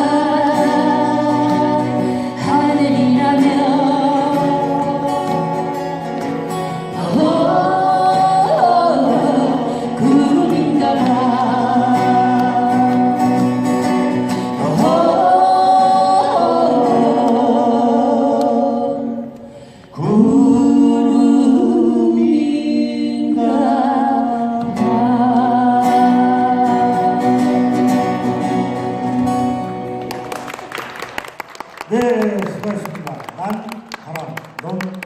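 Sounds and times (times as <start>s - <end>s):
person singing with vibrato: 0.0s - 29.8s
acoustic guitar: 0.0s - 35.0s.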